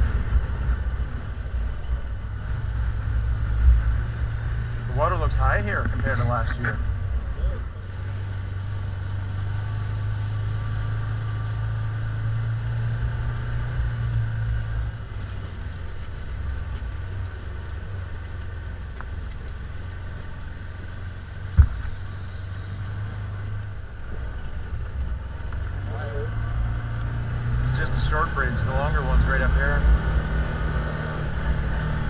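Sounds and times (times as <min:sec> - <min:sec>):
utv engine droning: 0:00.0 - 0:32.0.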